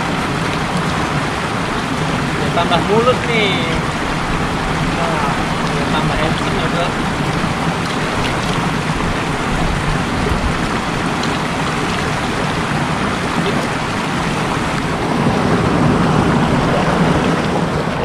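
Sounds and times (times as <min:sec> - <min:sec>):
water rushing over ground: 0:00.0 - 0:18.0.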